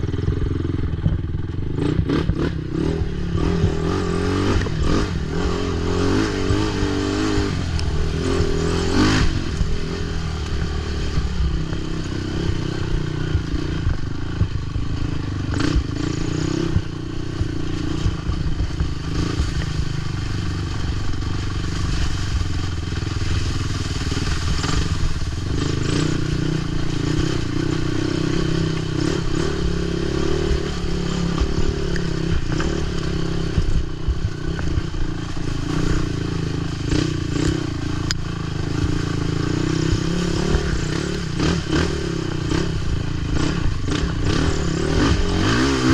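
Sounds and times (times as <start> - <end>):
quad engine revving: 0.0 - 45.9.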